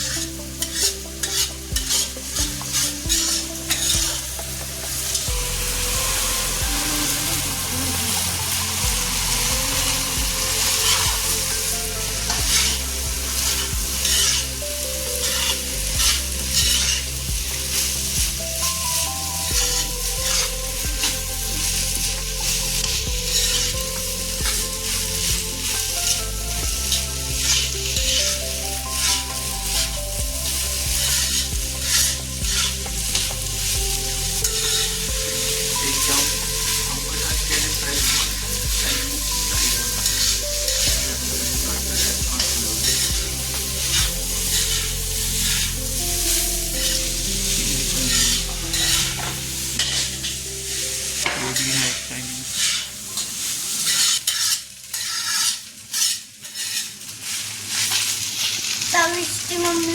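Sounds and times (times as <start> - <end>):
spatula scraping and knocking pan: 0.0 - 18.8, 19.5 - 50.4, 51.2 - 58.8
rice sizzling in a hot pan: 0.0 - 59.9.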